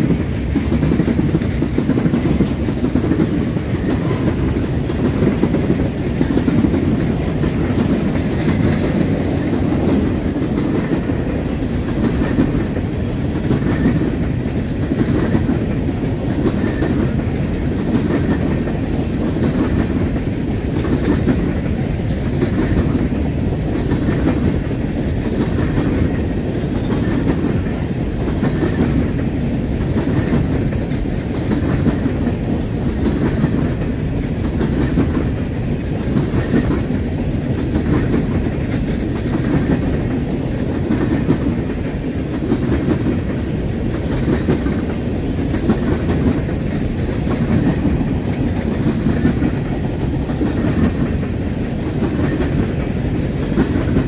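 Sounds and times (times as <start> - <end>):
steel wheels rumbling on rail: 0.0 - 54.0
wheels clacking over rail joints: 0.0 - 54.0.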